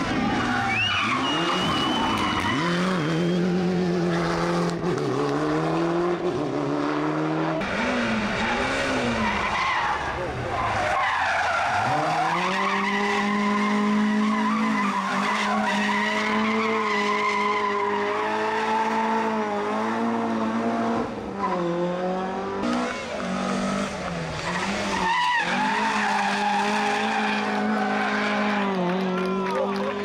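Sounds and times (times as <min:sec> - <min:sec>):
car engine at high revs: 0:00.0 - 0:30.0.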